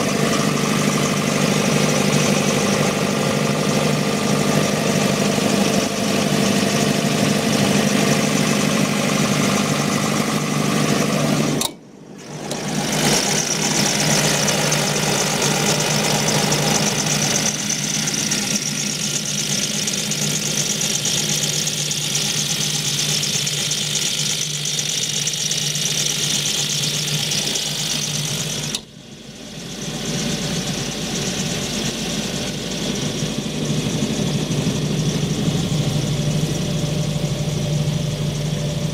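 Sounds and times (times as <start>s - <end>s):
diesel generator running: 0.0s - 38.9s.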